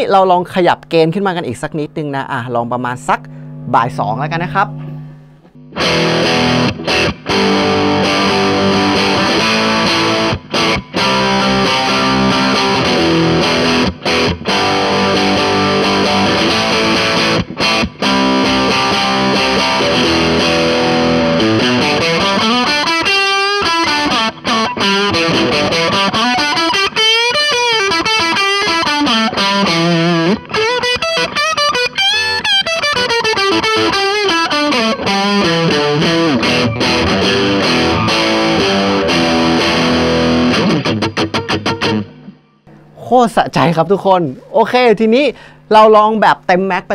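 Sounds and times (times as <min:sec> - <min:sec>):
overdriven electric guitar: 0:02.8 - 0:46.2.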